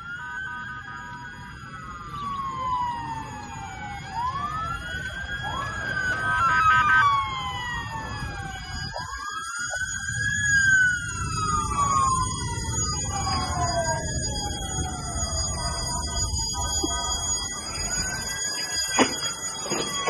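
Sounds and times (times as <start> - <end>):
sirens wailing: 0.0 - 20.0.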